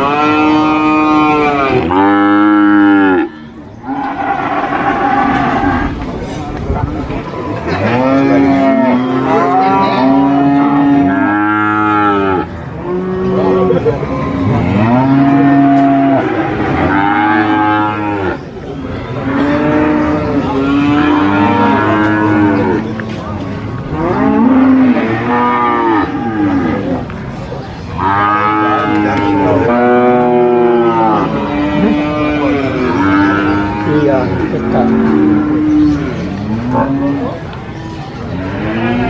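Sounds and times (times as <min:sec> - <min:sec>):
cattle mooing: 0:00.0 - 0:06.0, 0:07.6 - 0:18.4, 0:19.2 - 0:23.1, 0:23.9 - 0:27.0, 0:28.0 - 0:39.0.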